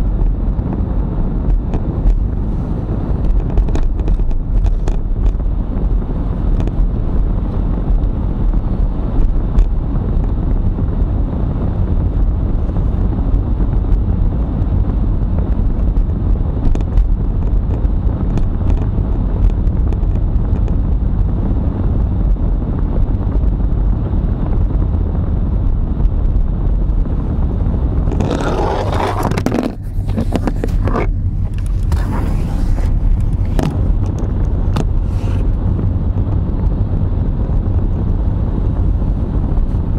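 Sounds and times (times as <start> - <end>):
car engine and tyres rumbling: 0.0 - 39.9
wind buffeting microphone: 0.0 - 39.9.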